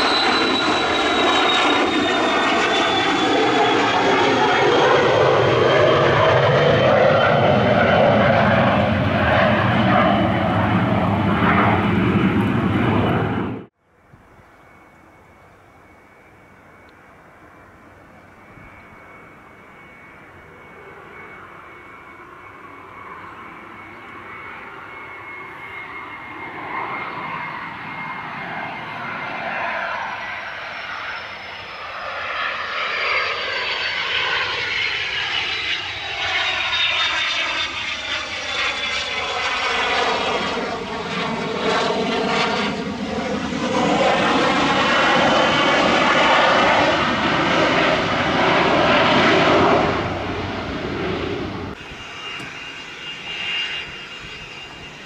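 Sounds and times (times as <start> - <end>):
jet engines whining: 0.0 - 13.8, 14.6 - 55.0.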